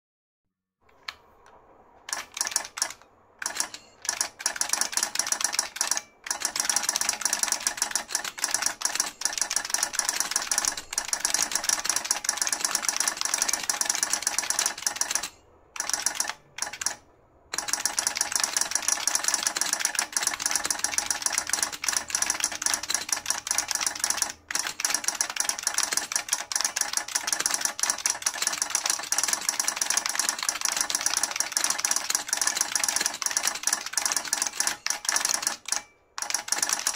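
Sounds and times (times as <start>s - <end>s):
keyboard typing clacks: 1.0s - 36.9s.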